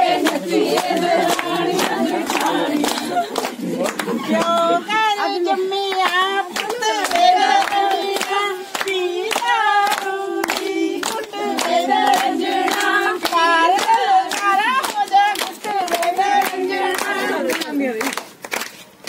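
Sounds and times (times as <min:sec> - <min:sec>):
women singing together: 0:00.0 - 0:18.2
handclaps keeping time: 0:00.0 - 0:18.8.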